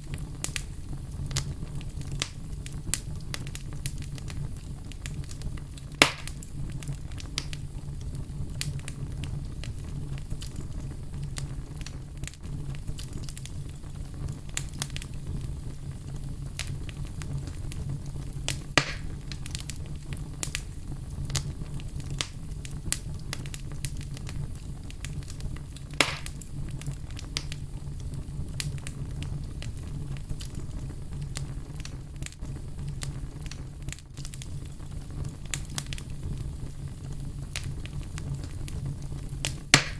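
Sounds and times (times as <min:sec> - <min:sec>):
fire popping: 0:00.0 - 0:39.9
low rumble of flames: 0:00.0 - 0:39.9
wood fire crackling: 0:00.0 - 0:39.9.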